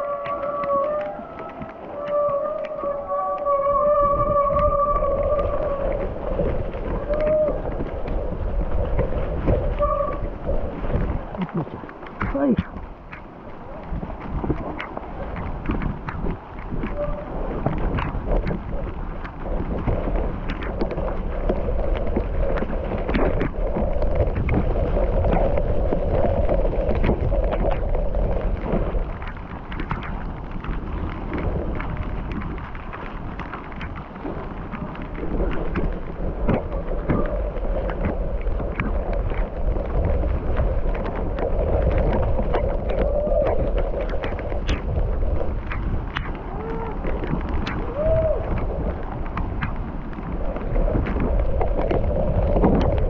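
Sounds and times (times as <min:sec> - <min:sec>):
bike rattling on rough trail: 0:00.0 - 0:53.0
wind on microphone: 0:00.0 - 0:53.0.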